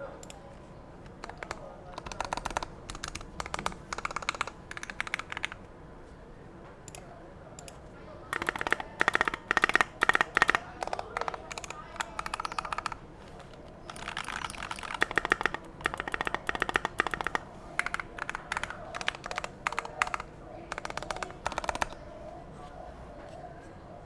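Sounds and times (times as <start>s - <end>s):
mechanical keyboard typing: 1.0s - 5.7s, 6.9s - 22.2s.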